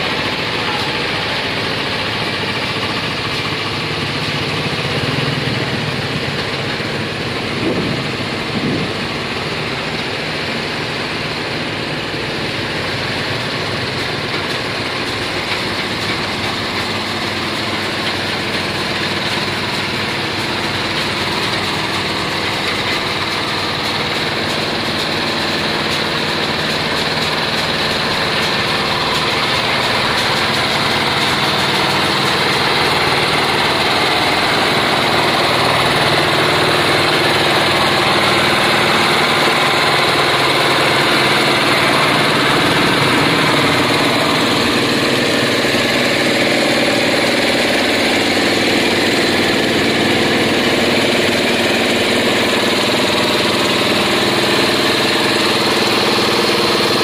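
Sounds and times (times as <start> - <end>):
diesel engines running: 0.0 - 57.0
small engine-driven unit: 0.0 - 57.0.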